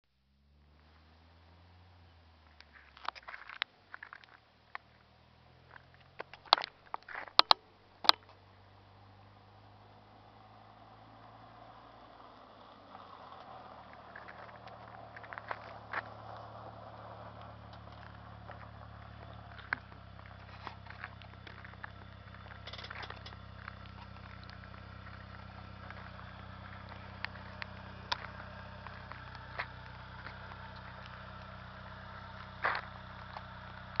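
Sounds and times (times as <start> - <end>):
car engine idling: 0.2 - 34.0.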